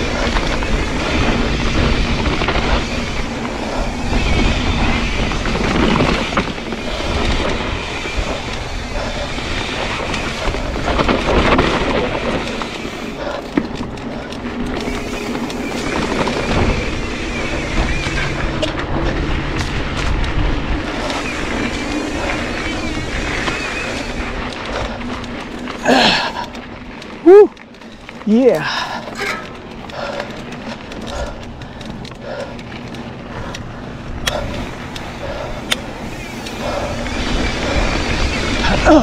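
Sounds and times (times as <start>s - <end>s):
bike rattling over bumps: 0.0s - 39.0s
bike tyres rolling over dirt: 0.0s - 39.0s
wind rumbling on microphone: 0.0s - 39.0s.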